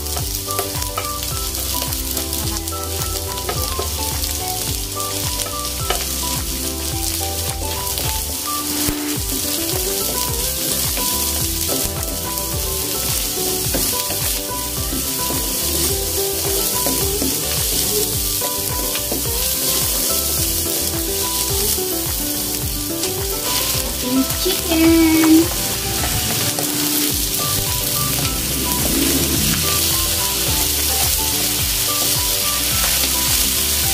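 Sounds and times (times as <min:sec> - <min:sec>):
garlic sizzling in oil: 0:00.0 - 0:33.9.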